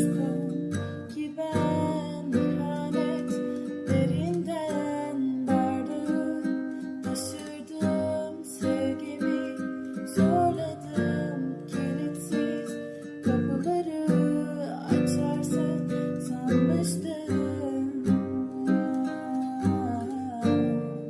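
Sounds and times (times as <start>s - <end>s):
strummed acoustic guitar song: 0.0s - 21.0s.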